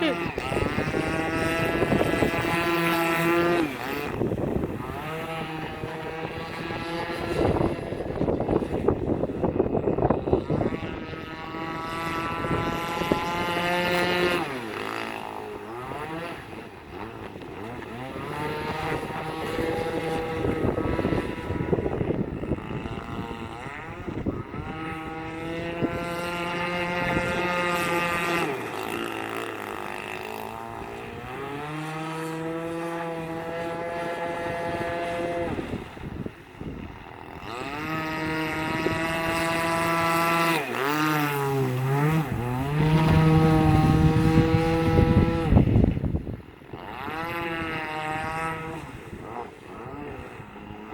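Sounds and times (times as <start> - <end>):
boat engine at speed: 0.0 - 50.9.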